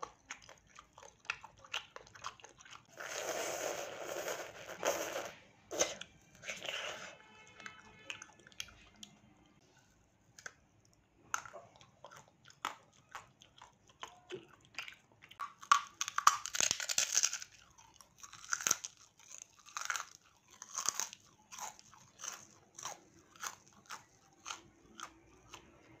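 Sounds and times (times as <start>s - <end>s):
crunchy food being chewed: 0.0s - 9.2s, 10.3s - 26.0s.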